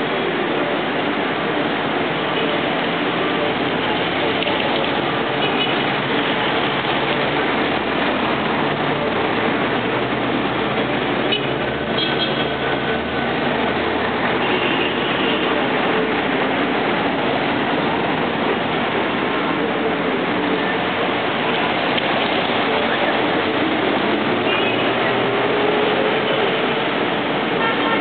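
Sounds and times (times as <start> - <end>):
steady rushing noise: 0.0 - 28.0.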